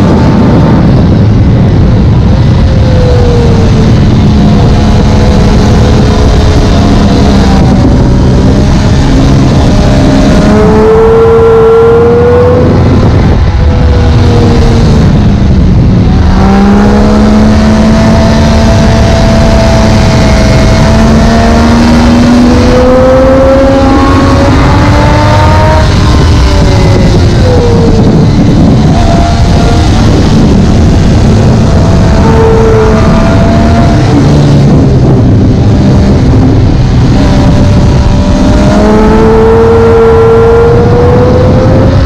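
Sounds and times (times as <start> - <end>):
heavy wind noise: 0.0 - 42.0
motorcycle engine at high revs: 0.0 - 42.0.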